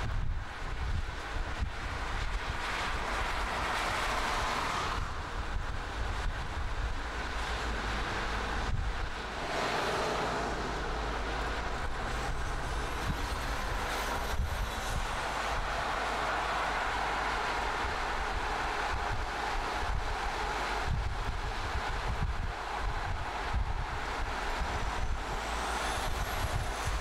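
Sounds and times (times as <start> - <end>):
tyre and wind rush: 0.0 - 27.0.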